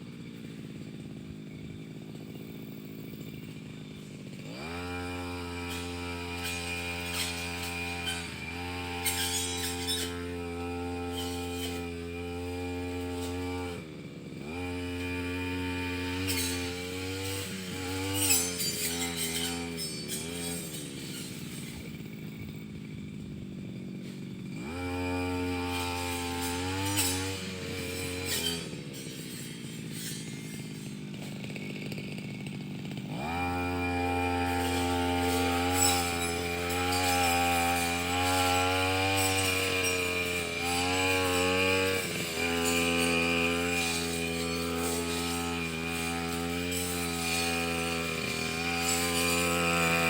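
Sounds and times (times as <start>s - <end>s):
brush cutter engine revving: 0.0s - 50.0s.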